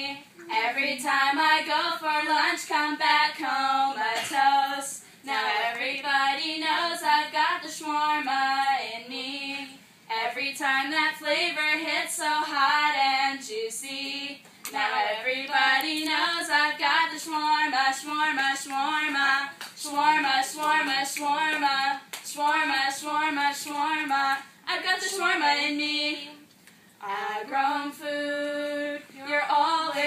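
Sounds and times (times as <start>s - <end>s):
young women singing unaccompanied: 0.0s - 30.0s.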